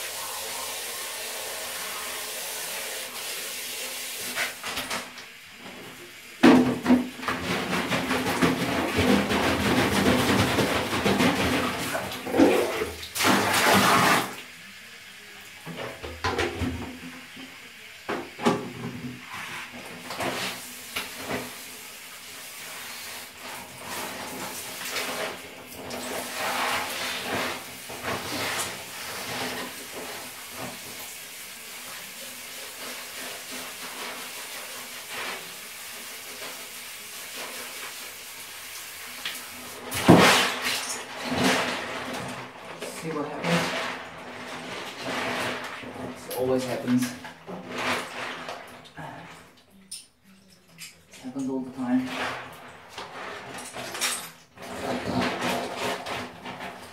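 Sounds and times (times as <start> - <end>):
water splashing in bathtub: 0.0 - 56.9.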